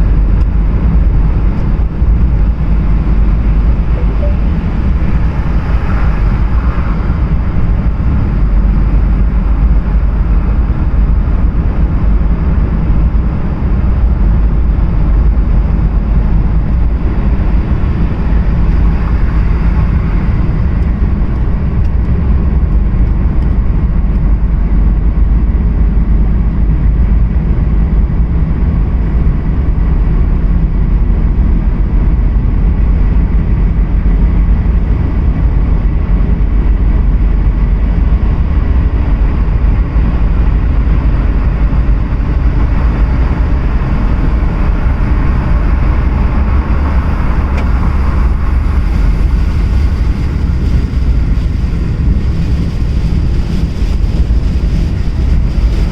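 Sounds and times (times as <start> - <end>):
car engine noise: 0.0 - 55.9
tyres rumbling on road: 0.0 - 55.9.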